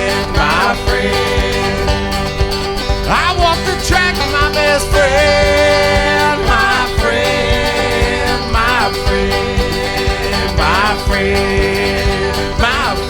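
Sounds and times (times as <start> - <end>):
acoustic bluegrass band playing: 0.0 - 13.0
person singing: 0.0 - 13.0.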